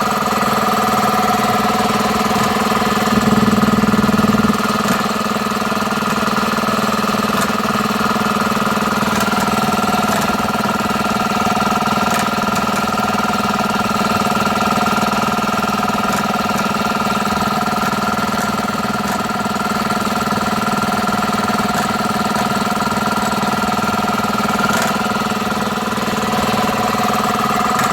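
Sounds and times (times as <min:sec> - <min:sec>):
compressor humming with whine: 0:00.0 - 0:27.9.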